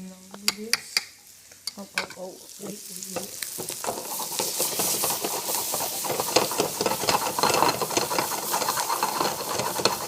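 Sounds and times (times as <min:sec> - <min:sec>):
butter sizzling in a frying pan: 0:00.0 - 0:10.0.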